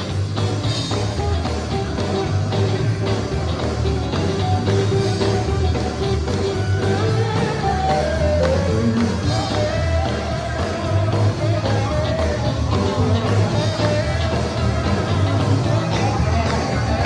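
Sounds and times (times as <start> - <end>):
heavy steady bass line: 0.0 - 17.0
sliding steel guitar melody: 0.0 - 17.0.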